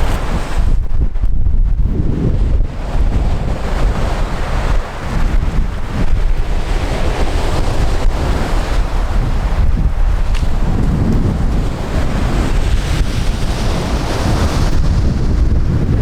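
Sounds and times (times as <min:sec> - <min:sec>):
sea waves washing on shore: 0:00.0 - 0:00.9, 0:02.4 - 0:16.0
wind buffeting microphone: 0:00.0 - 0:16.0.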